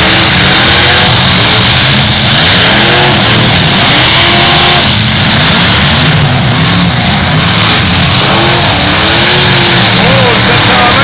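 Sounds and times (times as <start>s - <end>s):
car engines revving hard: 0.0s - 11.0s.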